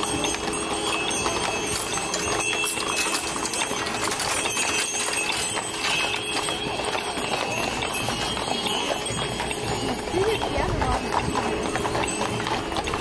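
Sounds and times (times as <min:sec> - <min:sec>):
hooves clip-clopping on asphalt: 0:00.0 - 0:13.0.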